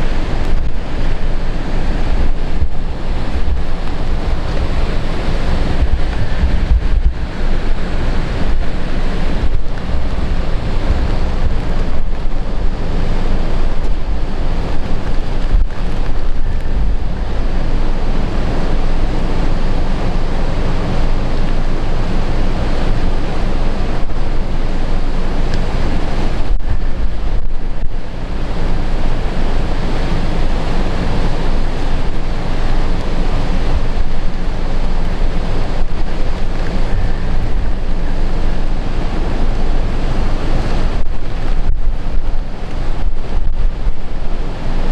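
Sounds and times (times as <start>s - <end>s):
heavy surf breaking on shore: 0.0s - 44.9s
wind buffeting microphone: 0.0s - 44.9s.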